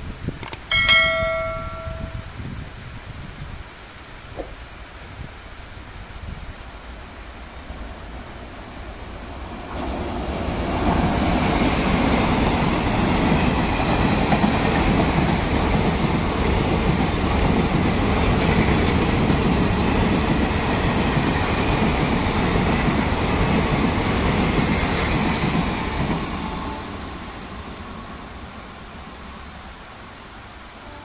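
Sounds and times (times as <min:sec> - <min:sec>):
train passing at speed: 0:00.7 - 0:02.8, 0:05.8 - 0:31.0.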